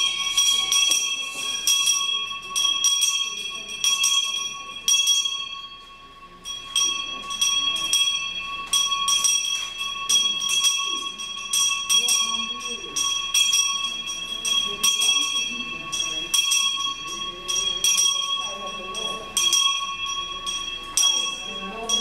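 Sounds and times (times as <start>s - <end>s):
handbell ringing: 0.0s - 22.0s.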